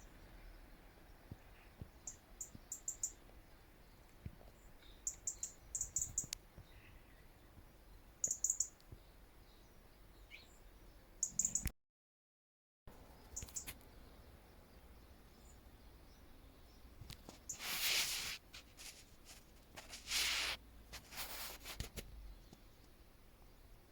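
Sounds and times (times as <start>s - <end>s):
faint outdoor hiss: 0.0s - 11.7s, 12.9s - 23.9s
small birds chirping: 0.0s - 11.7s, 12.9s - 23.9s.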